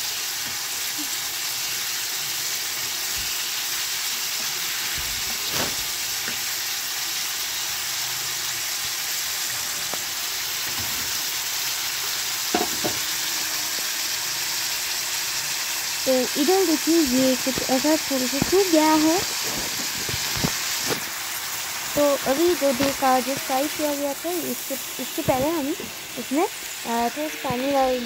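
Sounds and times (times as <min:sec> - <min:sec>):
potatoes sizzling in oil: 0:00.0 - 0:28.0.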